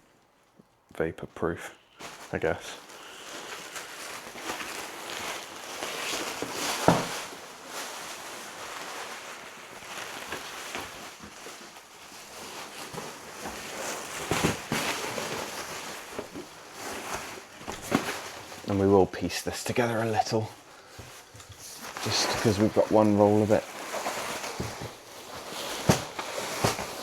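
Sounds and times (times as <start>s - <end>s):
foil underlay rustling and crinkling: 1.4s - 27.0s.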